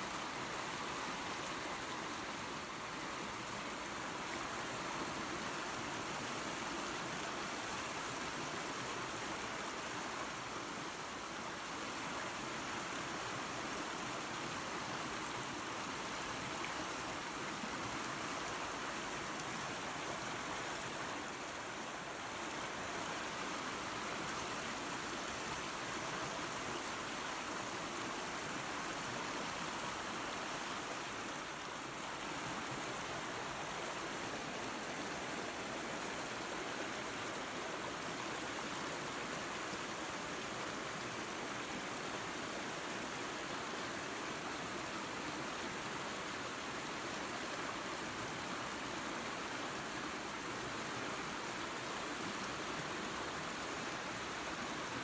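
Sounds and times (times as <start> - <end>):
water running over waterfall: 0.0 - 55.0.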